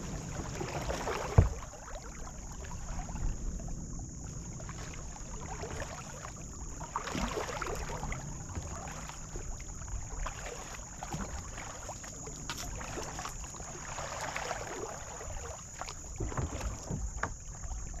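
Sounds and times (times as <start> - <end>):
paddle splashing in water: 0.0 - 18.0
wind rumble on microphone: 0.0 - 18.0.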